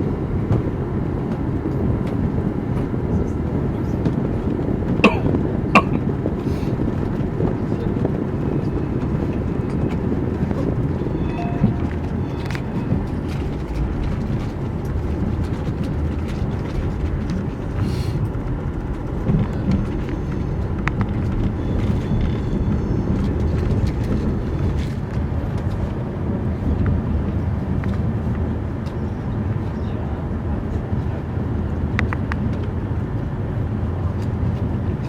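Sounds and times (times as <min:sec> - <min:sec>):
high-speed train rumble: 0:00.0 - 0:35.0.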